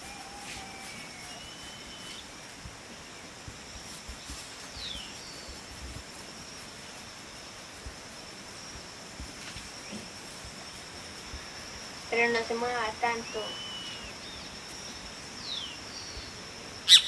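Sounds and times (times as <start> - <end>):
insect droning: 0.0 - 17.0.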